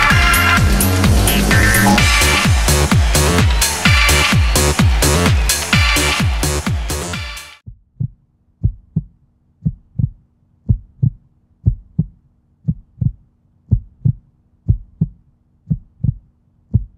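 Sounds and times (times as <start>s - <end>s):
heartbeat thumps: 0.0s - 6.9s, 7.7s - 16.9s.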